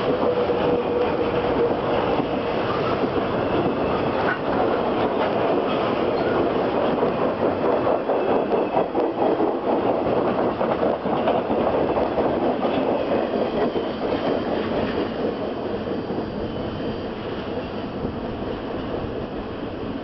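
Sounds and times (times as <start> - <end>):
steel wheels clattering over rail: 0.0 - 19.3
freight train rolling past: 0.0 - 20.0.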